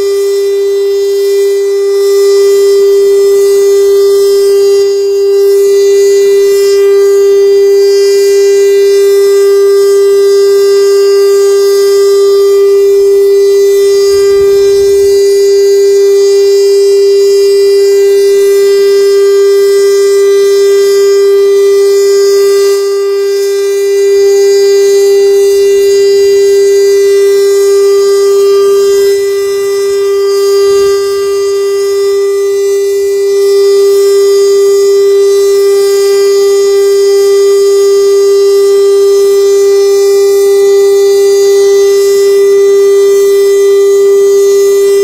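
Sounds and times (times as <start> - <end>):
tornado siren steady tone: 0.0 - 45.0.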